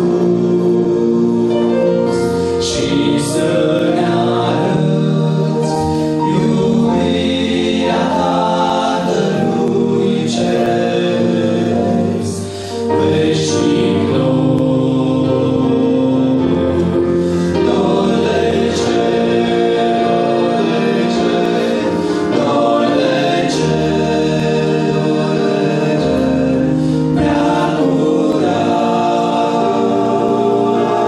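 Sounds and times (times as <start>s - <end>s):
men singing in harmony: 0.0s - 31.0s.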